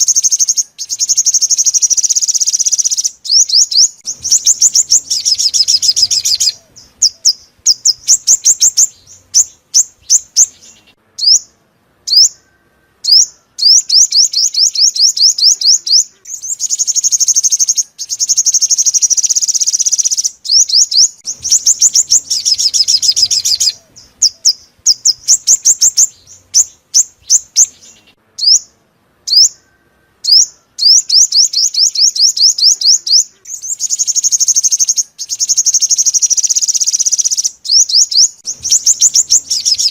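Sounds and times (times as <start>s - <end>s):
sunbird song: 0.0s - 39.9s.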